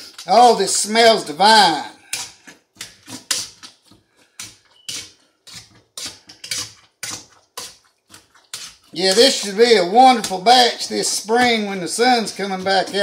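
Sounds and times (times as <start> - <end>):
potato masher squishing fruit: 0.0 - 13.0.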